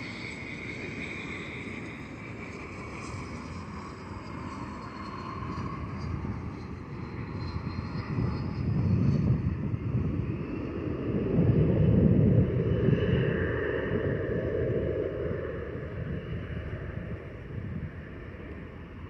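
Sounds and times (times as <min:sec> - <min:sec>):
jet engine whine passing overhead: 0:00.0 - 0:19.0
low jet rumble: 0:00.0 - 0:19.0.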